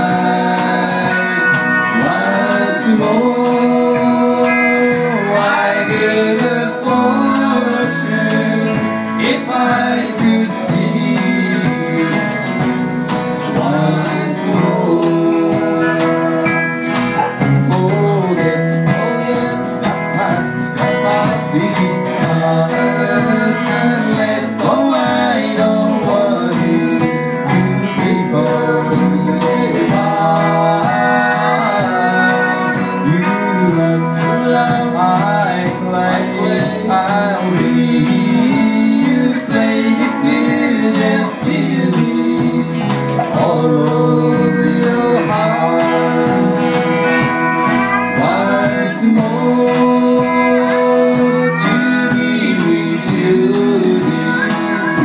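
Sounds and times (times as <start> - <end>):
country band playing: 0.0 - 55.0
person singing: 0.0 - 55.0.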